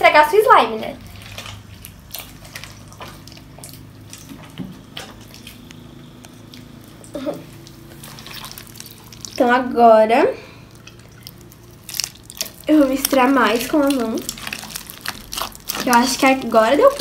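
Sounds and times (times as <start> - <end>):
slime squelching: 0.0 - 17.0.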